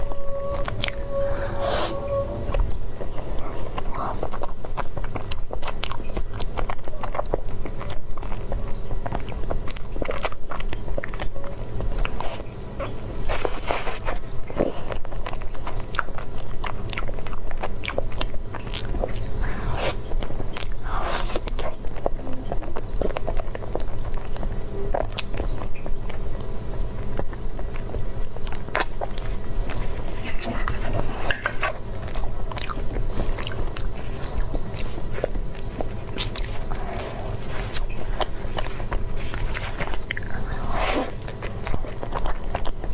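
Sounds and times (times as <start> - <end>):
person chewing food: 0.0 - 42.9.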